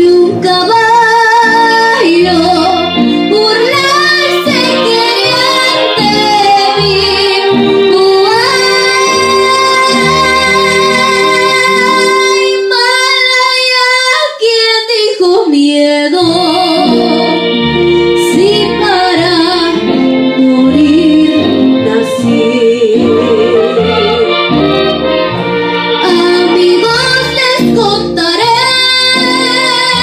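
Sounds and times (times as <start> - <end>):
woman singing into microphone: 0.0 - 17.6, 18.2 - 24.7, 26.0 - 30.0
recorded music backing track: 0.0 - 30.0.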